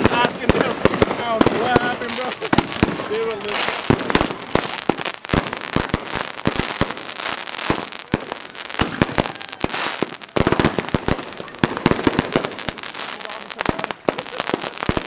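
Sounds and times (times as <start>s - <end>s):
fireworks bangs and pops: 0.0s - 15.0s
fireworks crackling: 0.0s - 15.0s.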